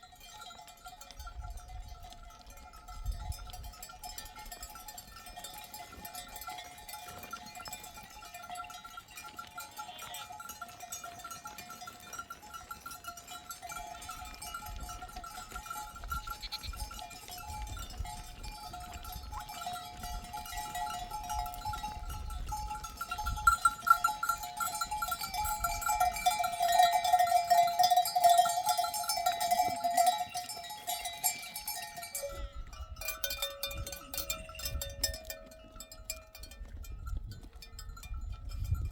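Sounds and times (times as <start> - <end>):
sheep bells jangling: 0.0 - 38.9.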